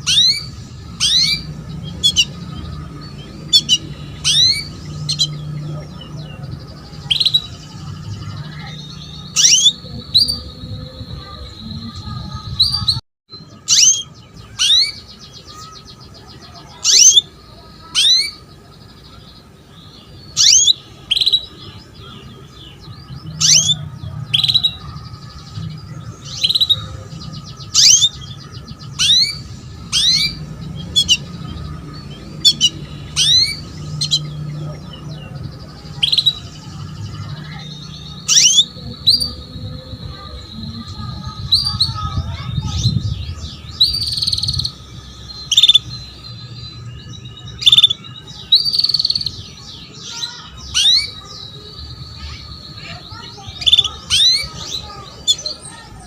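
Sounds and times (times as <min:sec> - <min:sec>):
canary chirping: 0:00.0 - 0:56.0.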